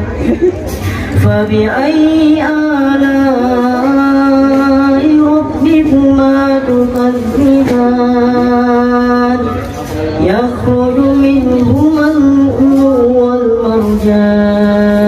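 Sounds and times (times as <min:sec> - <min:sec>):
man chanting into a microphone: 0:01.1 - 0:15.0.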